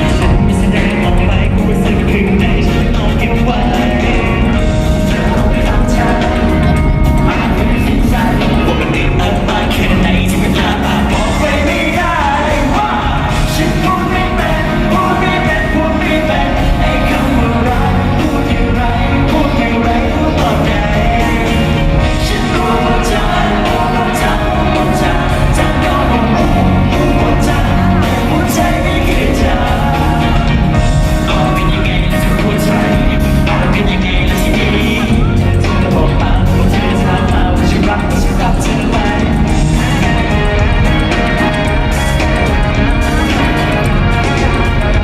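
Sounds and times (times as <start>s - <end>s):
live pop band with singer: 0.0s - 45.0s.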